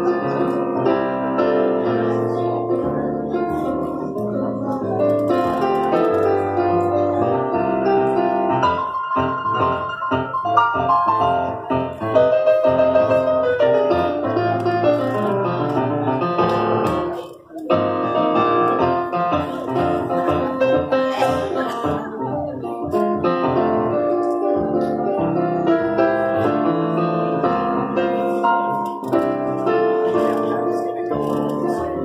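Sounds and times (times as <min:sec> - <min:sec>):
digital piano playing chords and melody: 0:00.0 - 0:32.0.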